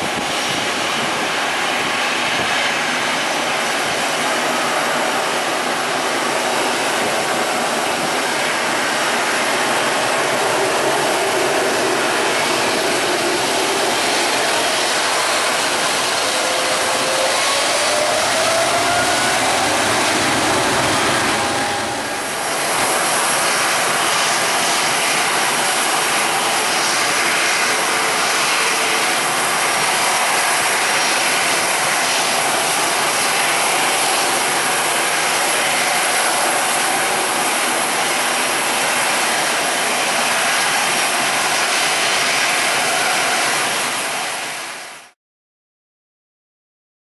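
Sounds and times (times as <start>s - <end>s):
jet engines at takeoff power: 0.0s - 45.2s.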